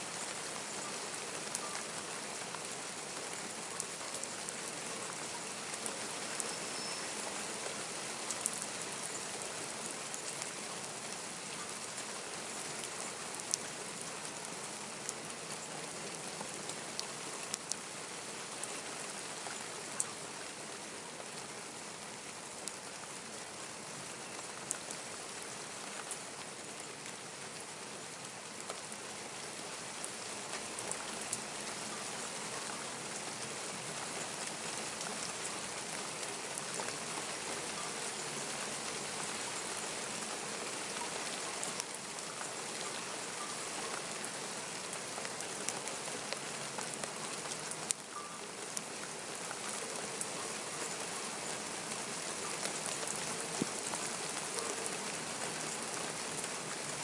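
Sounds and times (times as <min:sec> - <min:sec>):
raindrops dripping on surfaces: 0:00.0 - 0:57.0
steady rain hiss: 0:00.0 - 0:57.0.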